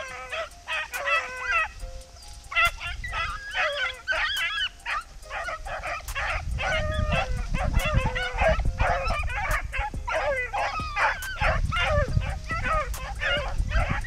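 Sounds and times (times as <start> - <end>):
hounds baying: 0.0 - 14.0.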